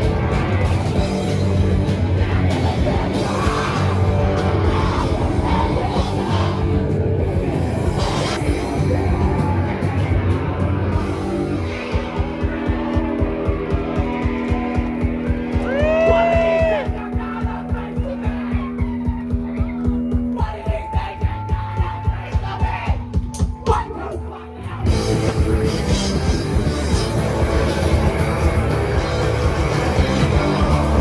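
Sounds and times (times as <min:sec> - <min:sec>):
punk rock band playing: 0:00.0 - 0:31.0.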